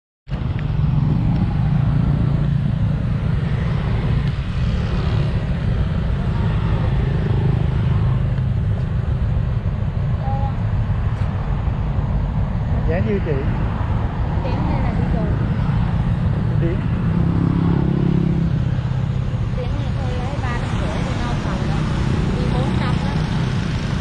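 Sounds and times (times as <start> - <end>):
traffic passing: 0.3 - 24.0.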